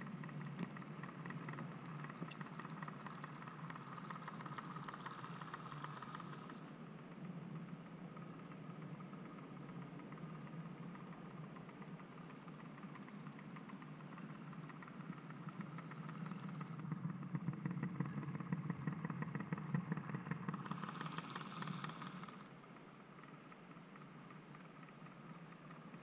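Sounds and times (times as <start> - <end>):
model train humming: 0.0 - 6.8, 8.2 - 26.0
wheels clicking on track: 0.0 - 26.0.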